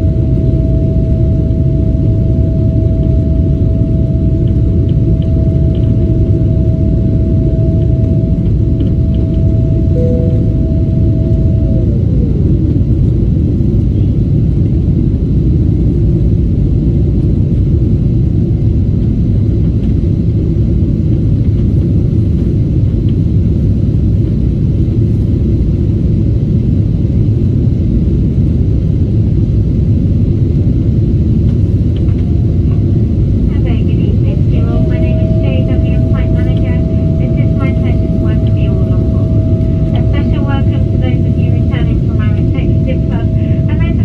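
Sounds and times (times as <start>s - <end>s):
jet engine rumble and rushing air: 0.0s - 44.0s.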